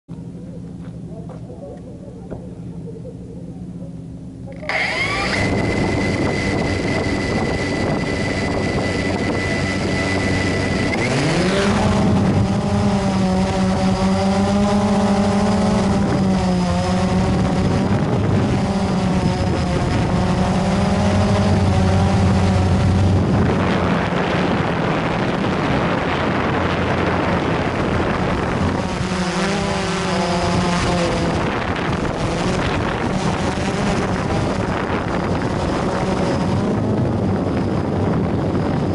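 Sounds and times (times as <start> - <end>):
drone motors whining: 0.1 - 38.9.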